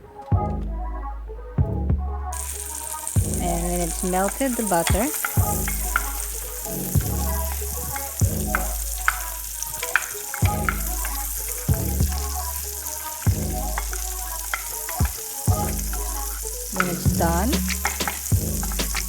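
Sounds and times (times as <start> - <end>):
background music with bass: 0.0 - 19.0
butter sizzling in a saucepan: 2.4 - 19.0.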